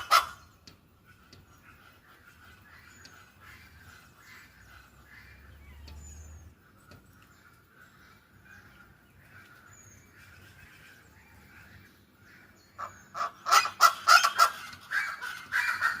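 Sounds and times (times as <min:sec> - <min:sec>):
fowl calling: 0:00.0 - 0:06.0, 0:07.4 - 0:16.0.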